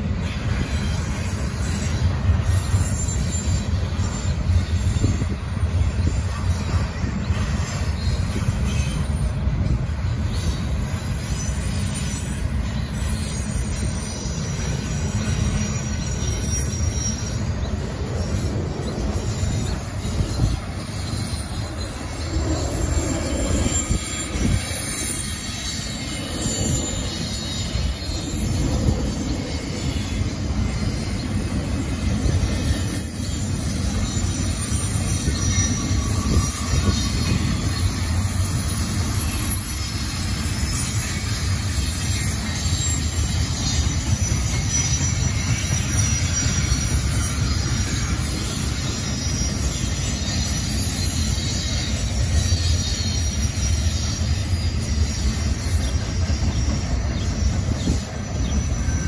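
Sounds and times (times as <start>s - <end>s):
freight train wheels rumbling: 0.0s - 59.0s
high-pitched wheel squeals: 0.0s - 59.0s.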